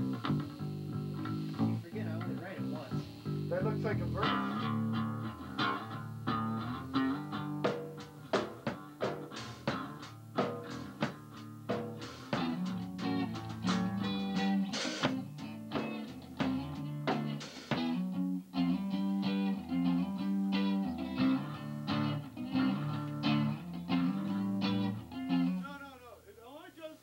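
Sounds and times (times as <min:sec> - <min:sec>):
electric bass line: 0:00.0 - 0:25.6
electric guitar: 0:00.0 - 0:25.7
drum kit and cymbals: 0:00.0 - 0:26.4.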